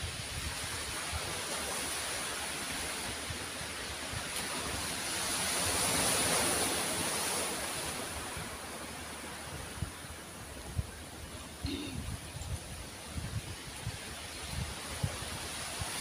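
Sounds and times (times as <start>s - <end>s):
waves washing onto pebbles: 0.0s - 11.6s, 12.6s - 16.0s.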